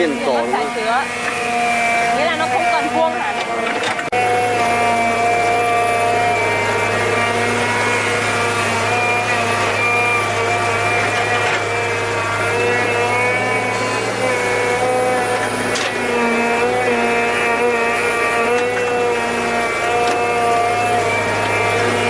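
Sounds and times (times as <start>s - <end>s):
small chainsaw engine running: 0.0s - 22.0s.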